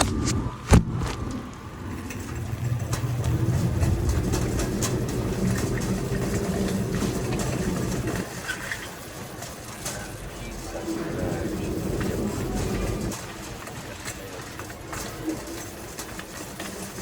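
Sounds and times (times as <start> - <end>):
shopping cart rolling on hard floor: 1.2 - 17.0.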